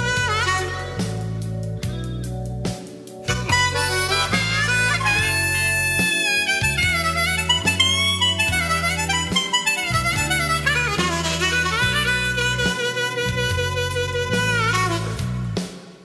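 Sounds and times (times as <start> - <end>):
low held bass notes: 0.0 - 15.6
harmonica blues melody: 0.0 - 15.8.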